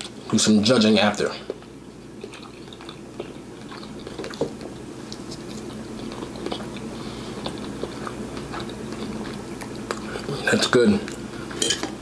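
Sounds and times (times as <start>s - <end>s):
close-up chewing: 1.4s - 12.0s.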